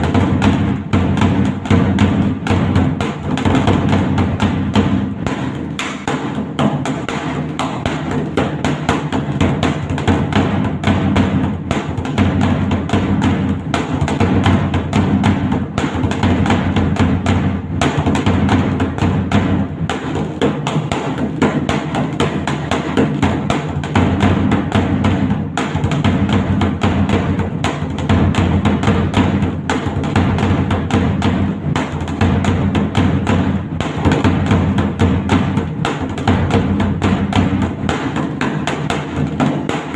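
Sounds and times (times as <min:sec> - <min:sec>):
barrel drum beaten with sticks: 0:00.0 - 0:39.9.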